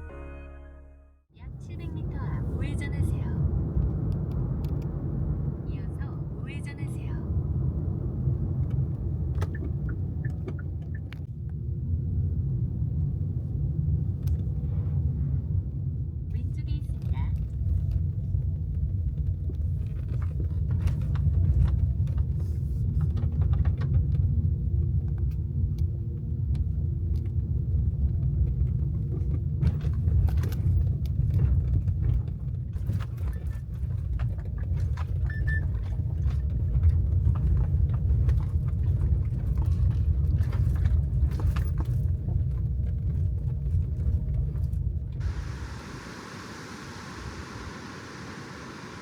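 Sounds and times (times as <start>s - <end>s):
car cabin rumble: 1.4s - 11.3s, 12.0s - 49.0s.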